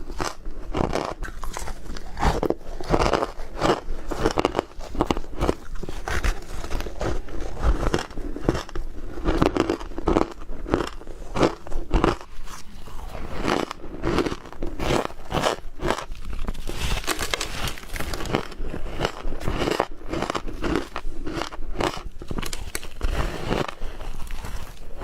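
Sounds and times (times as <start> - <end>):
ice crunching being chewed: 0.0 - 25.0.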